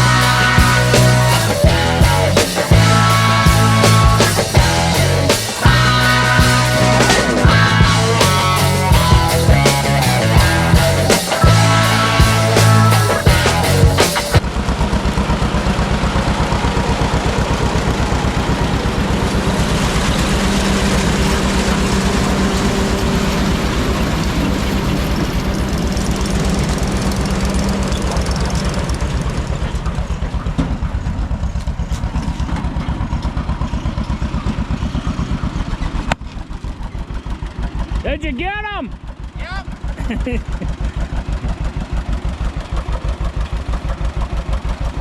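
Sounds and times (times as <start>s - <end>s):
machinery clatter: 0.0s - 38.2s
tractor engine running: 0.0s - 45.0s.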